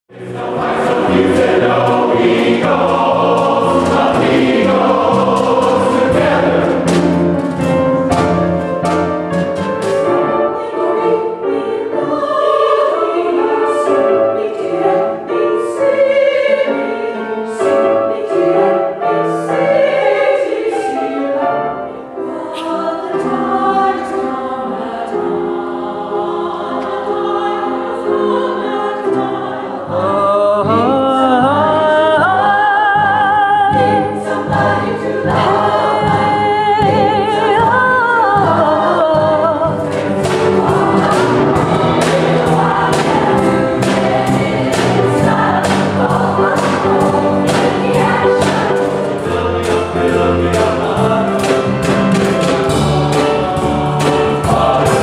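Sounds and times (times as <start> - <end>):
women's chorus singing: 0.1 - 55.0.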